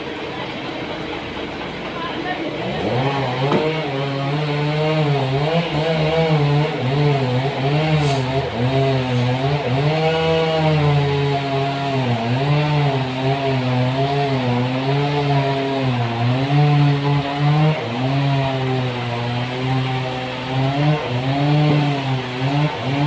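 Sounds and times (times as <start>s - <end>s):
sawmill engine sawing wood: 0.0s - 23.0s.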